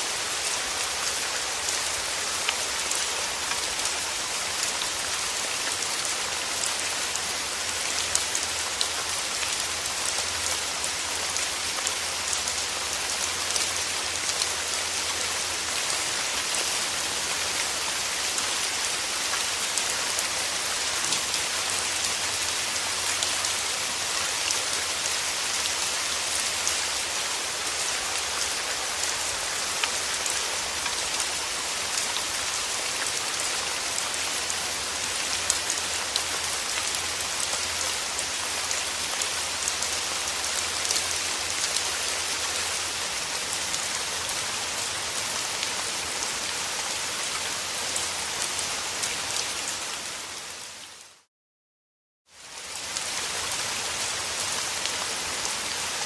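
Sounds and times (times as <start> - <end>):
steady rain falling: 0.0 - 51.3, 52.3 - 56.0.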